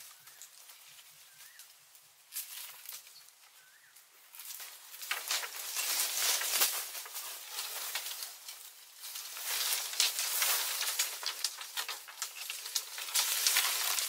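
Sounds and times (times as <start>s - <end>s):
dry leaves rustling and crackling: 0.0s - 14.0s.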